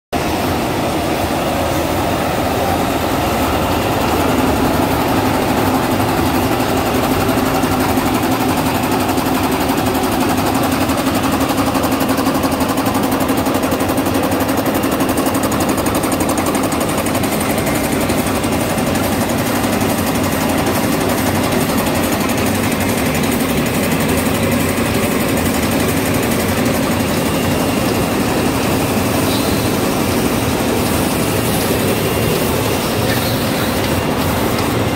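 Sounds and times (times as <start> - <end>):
fast mechanical clatter: 0.2 - 34.9
low hum of rollers: 0.2 - 34.9.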